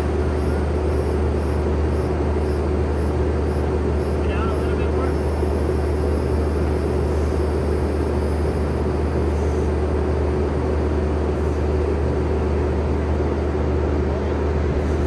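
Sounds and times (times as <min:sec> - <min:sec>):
skid steer engine droning: 0:00.0 - 0:15.0.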